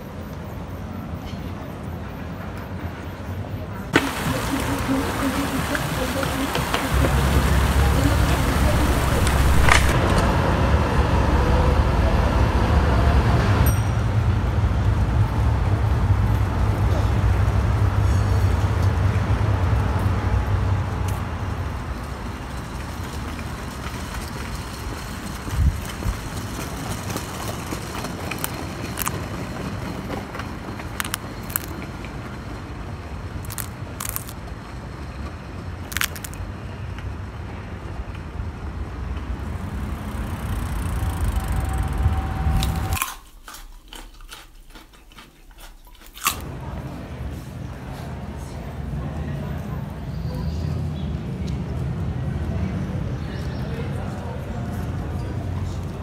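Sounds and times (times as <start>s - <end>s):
tram passing: 0.0s - 43.0s, 46.4s - 56.0s
traffic rumble: 0.0s - 56.0s.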